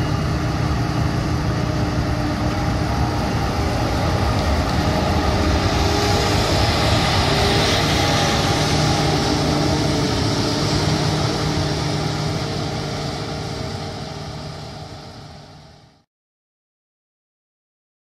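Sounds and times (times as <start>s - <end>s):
combine harvester humming: 0.0s - 16.0s.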